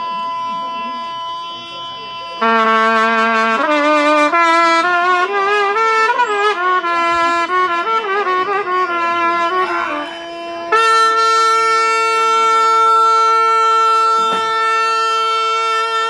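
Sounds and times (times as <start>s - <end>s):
trumpet playing: 0.0s - 16.0s.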